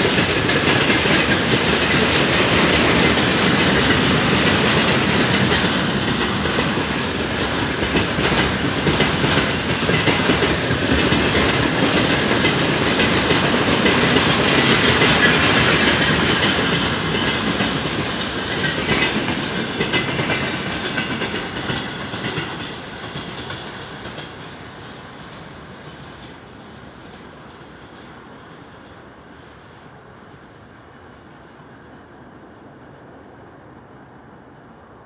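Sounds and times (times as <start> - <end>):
train wheels clattering over rails: 0.0 - 28.6.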